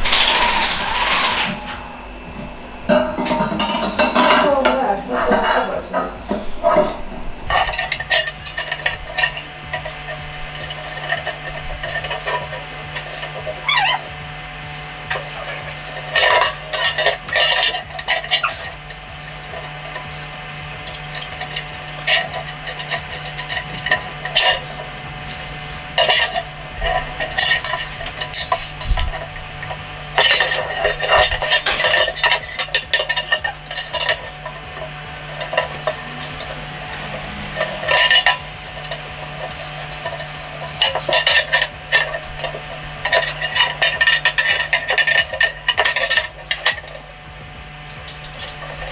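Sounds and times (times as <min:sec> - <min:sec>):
metal parts clinking and rattling: 0:00.0 - 0:01.8, 0:07.5 - 0:14.1, 0:15.0 - 0:47.1, 0:48.0 - 0:48.9.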